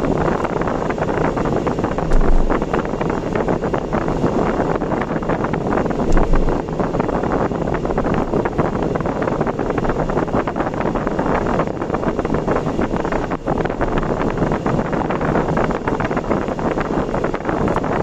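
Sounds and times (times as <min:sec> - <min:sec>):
wind noise: 0:00.0 - 0:18.0.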